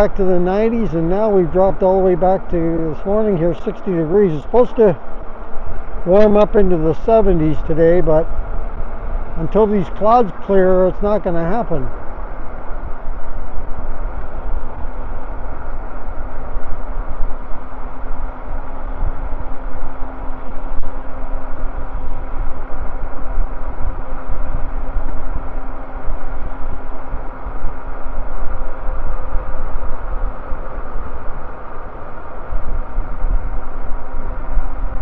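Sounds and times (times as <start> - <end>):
faint steady hum: 0.0 - 35.0
road noise: 0.0 - 35.0
wind buffeting microphone: 0.0 - 35.0.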